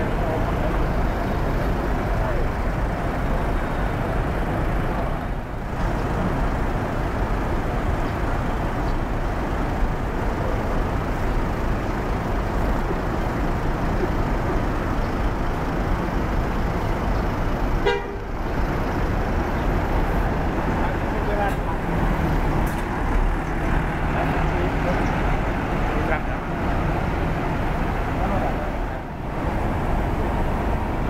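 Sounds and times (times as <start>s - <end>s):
diesel bus engines running: 0.0s - 31.0s
traffic noise: 0.0s - 31.0s.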